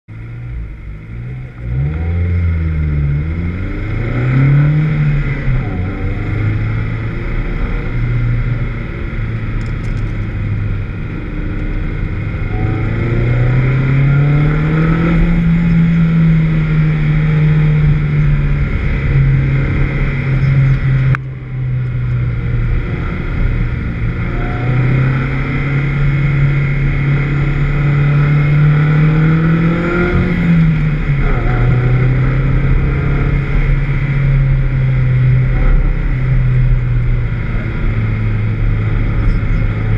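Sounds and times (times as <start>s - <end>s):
car engine revving and misfiring: 0.1s - 39.9s.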